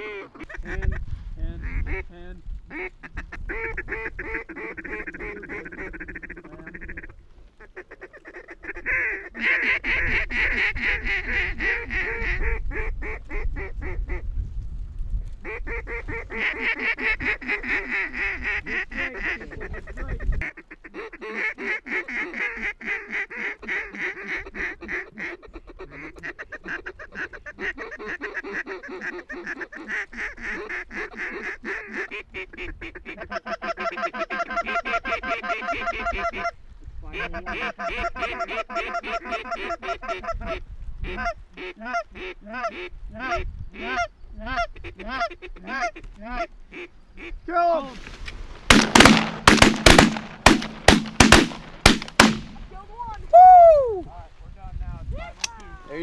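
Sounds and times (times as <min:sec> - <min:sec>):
ducks quacking: 0:00.0 - 0:14.2, 0:15.4 - 0:53.2.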